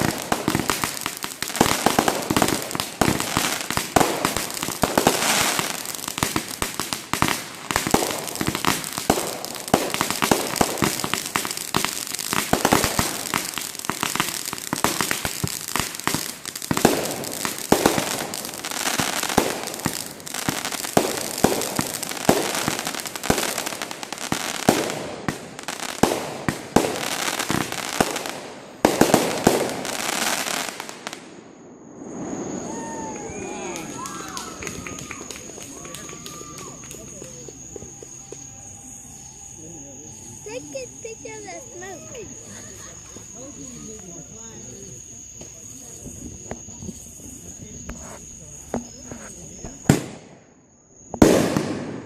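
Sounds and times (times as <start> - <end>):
fireworks popping and crackling: 0.0 - 31.4, 32.0 - 39.4, 40.2 - 50.5, 51.1 - 52.0
loud firework bangs: 0.0 - 39.0, 45.4 - 52.0.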